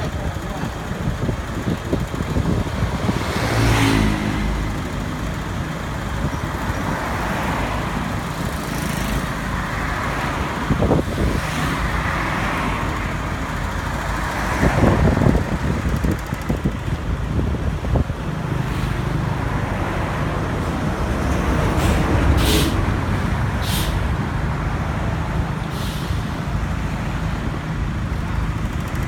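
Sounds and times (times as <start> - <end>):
motor vehicles passing: 0.0 - 29.0.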